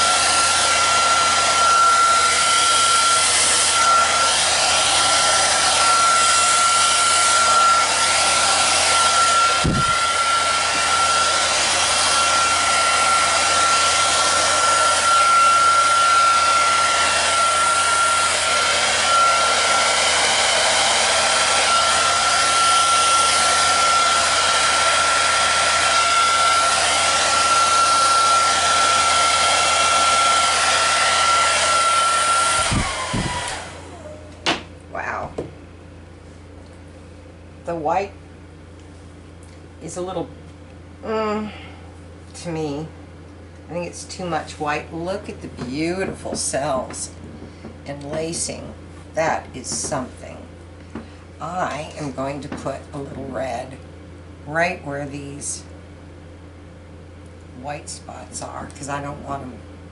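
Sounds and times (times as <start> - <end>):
hair dryer blowing: 0.0 - 35.5, 37.6 - 38.2, 39.8 - 40.2, 43.6 - 55.8, 57.6 - 59.9.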